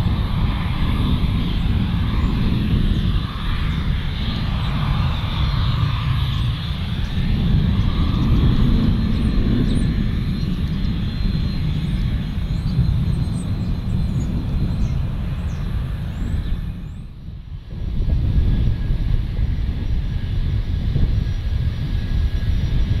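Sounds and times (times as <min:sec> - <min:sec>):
jet engine rumble with whine: 0:00.0 - 0:23.0.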